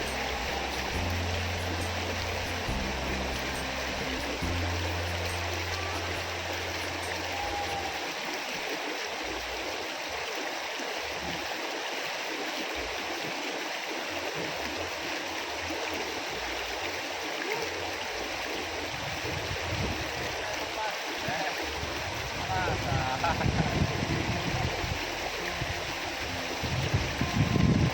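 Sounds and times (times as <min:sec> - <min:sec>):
river water rushing: 0:00.0 - 0:27.9.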